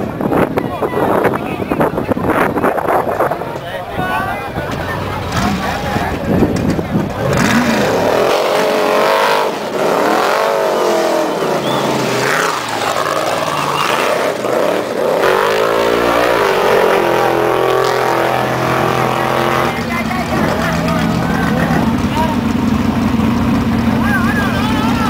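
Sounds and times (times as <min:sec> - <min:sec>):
race vehicle engines revving: 0:00.0 - 0:25.0.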